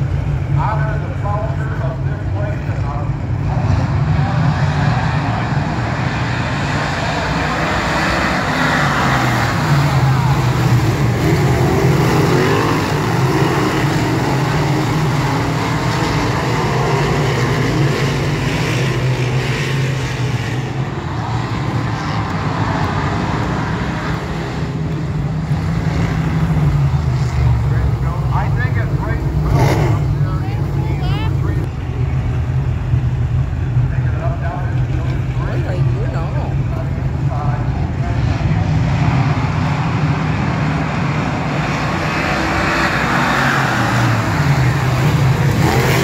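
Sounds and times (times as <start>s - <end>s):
race car engines roaring: 0.0s - 46.0s.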